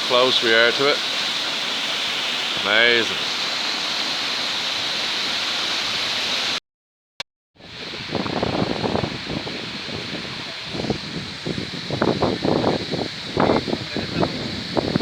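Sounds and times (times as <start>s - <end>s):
waterfall rushing: 0.0s - 6.6s, 7.7s - 15.0s.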